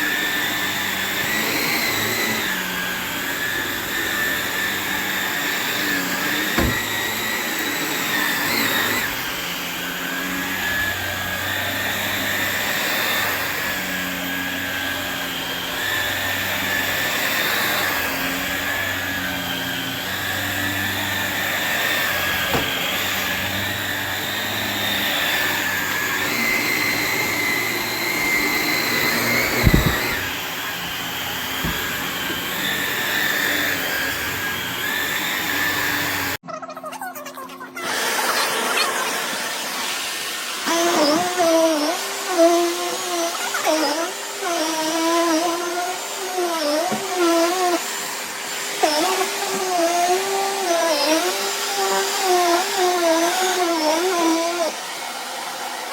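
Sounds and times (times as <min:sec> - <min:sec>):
vacuum cleaner motor whine: 0:00.0 - 0:36.4, 0:37.8 - 0:55.9.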